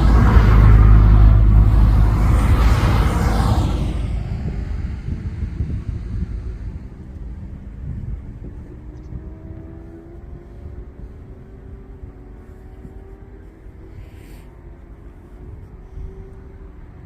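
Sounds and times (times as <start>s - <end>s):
jet aircraft engines rumbling: 0.0s - 17.0s.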